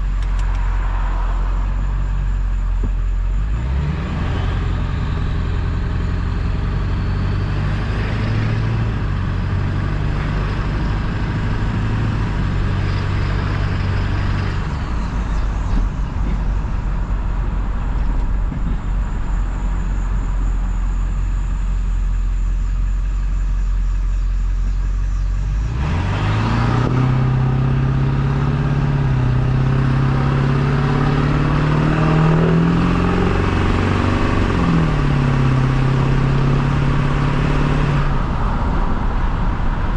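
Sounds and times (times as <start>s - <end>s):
diesel truck engine accelerating: 0.0s - 39.9s.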